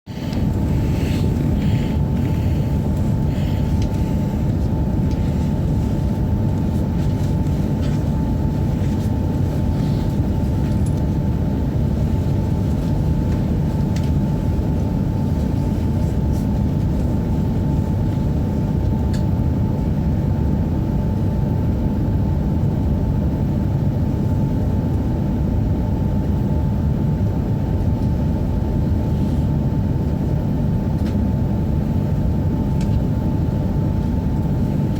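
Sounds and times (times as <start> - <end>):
thin constant whine: 0.1 - 34.9.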